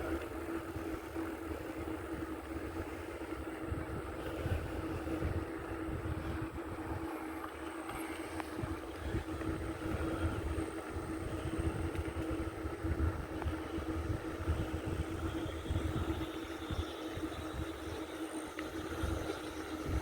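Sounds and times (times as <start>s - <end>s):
bicycle tyre noise: 0.0s - 20.0s
steady low hum: 0.0s - 20.0s
wind rumbling on microphone: 0.0s - 20.0s.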